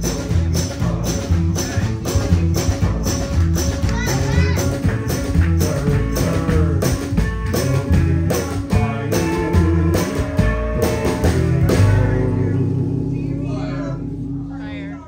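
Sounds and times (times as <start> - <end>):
drum hits: 0.0 - 15.0
live band playing: 0.0 - 15.0
walking bass line: 0.0 - 15.0.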